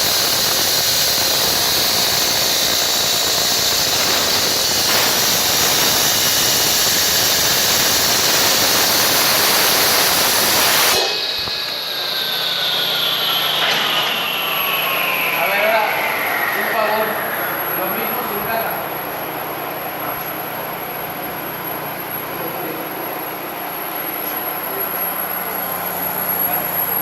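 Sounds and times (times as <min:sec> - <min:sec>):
industrial vacuum cleaner running: 0:00.0 - 0:27.0.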